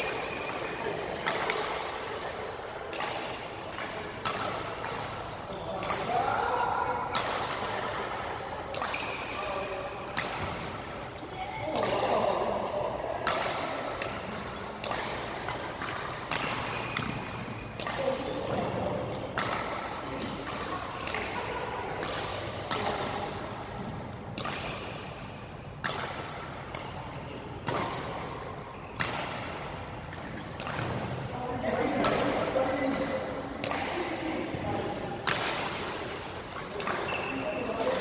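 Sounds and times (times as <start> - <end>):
rackets hitting shuttlecock: 0.0 - 12.6, 13.2 - 38.0.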